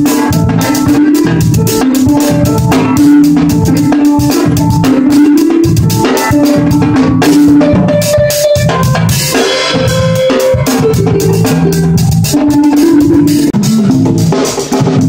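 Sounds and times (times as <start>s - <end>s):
instrument playing held notes: 0.0s - 14.9s
drum and cymbal hits: 0.0s - 15.0s.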